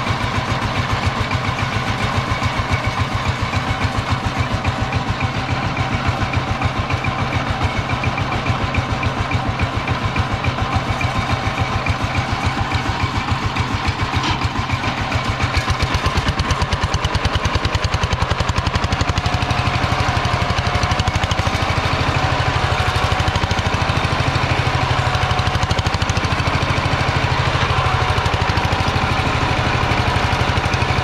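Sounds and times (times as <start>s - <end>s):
diesel engine chugging: 0.0s - 31.0s.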